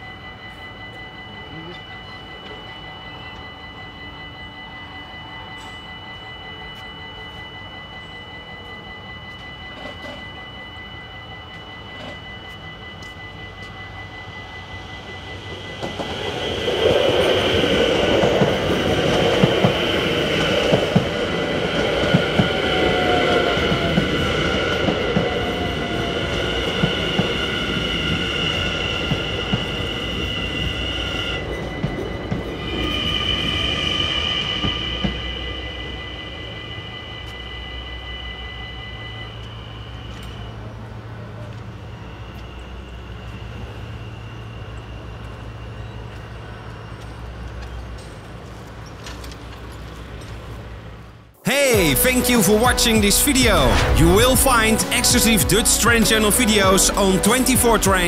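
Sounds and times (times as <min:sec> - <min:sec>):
crossing warning bells ringing: 0:00.0 - 0:58.0.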